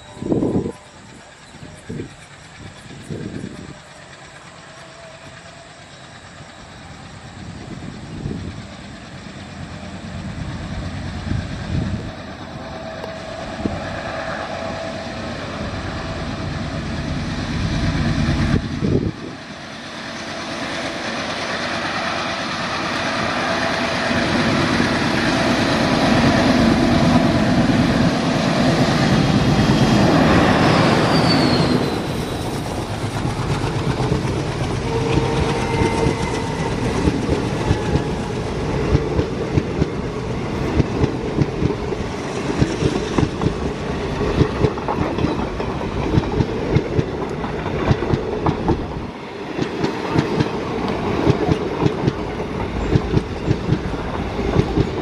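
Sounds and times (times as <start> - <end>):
diesel locomotive engine: 0.0 - 55.0
train wheels rumbling on rails: 0.0 - 55.0.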